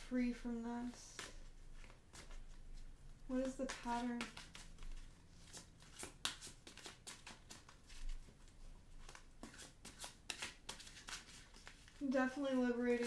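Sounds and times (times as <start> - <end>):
cards being shuffled: 0.8 - 13.0.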